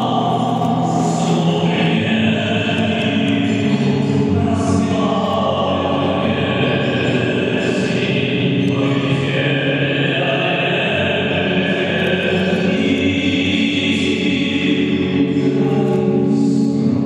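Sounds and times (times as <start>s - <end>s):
choral music: 0.0s - 17.0s.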